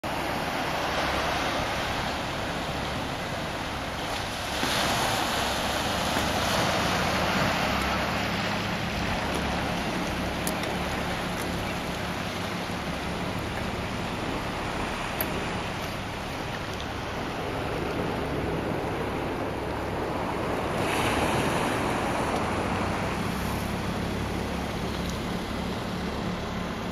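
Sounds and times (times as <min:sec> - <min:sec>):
waves washing onto beach: 0:00.0 - 0:26.9
wind rumbling on microphone: 0:00.0 - 0:26.9.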